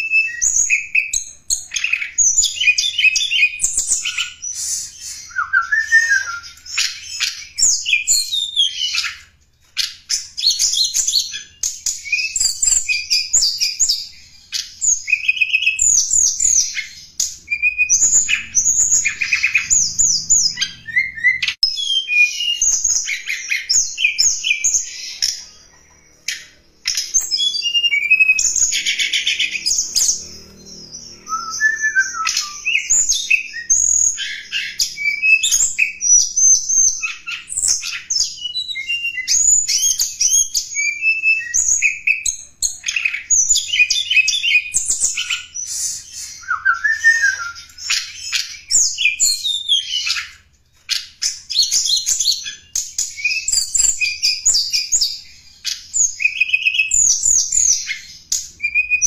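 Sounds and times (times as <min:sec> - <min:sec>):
bird singing chirps and trills: 0:00.0 - 0:59.0.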